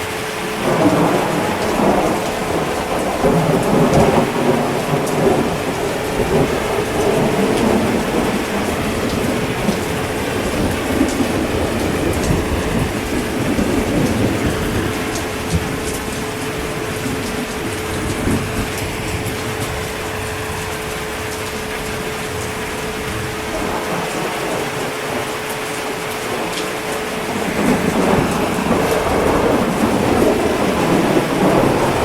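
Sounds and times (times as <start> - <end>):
heavy rain: 0.0 - 32.0
thunder rumbling: 0.0 - 32.0.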